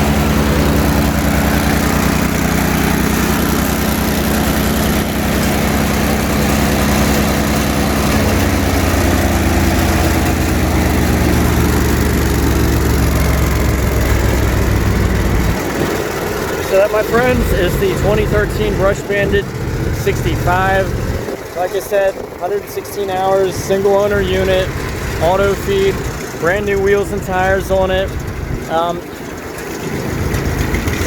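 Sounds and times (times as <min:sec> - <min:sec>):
wood chipper engine running: 0:00.0 - 0:31.0.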